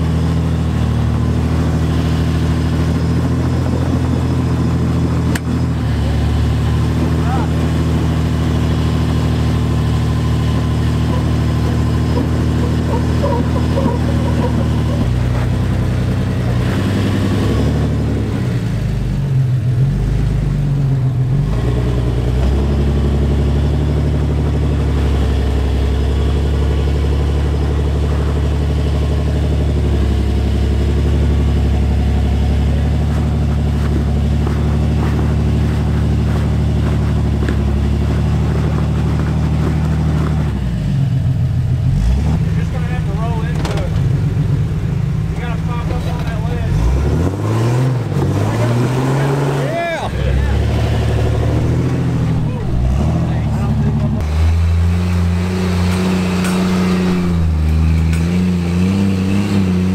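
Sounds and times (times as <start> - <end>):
engine working under load: 0.0 - 59.9.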